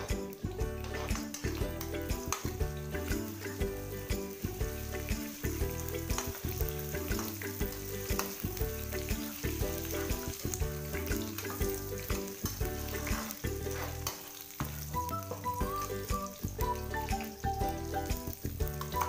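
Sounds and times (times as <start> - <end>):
background music with a beat: 0.0 - 19.0
spices sizzling in hot oil: 0.0 - 19.0.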